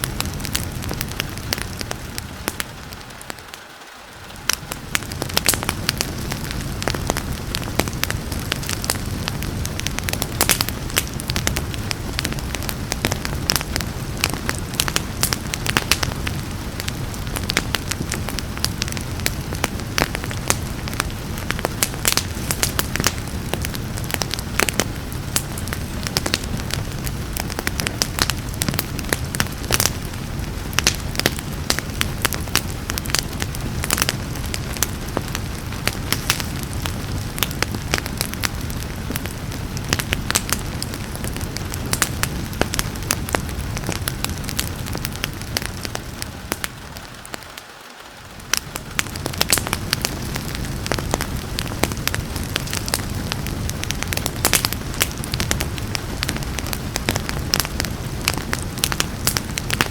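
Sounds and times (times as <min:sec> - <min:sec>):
rain hissing: 0:00.0 - 0:59.9
wood fire crackling and popping: 0:00.0 - 0:59.9.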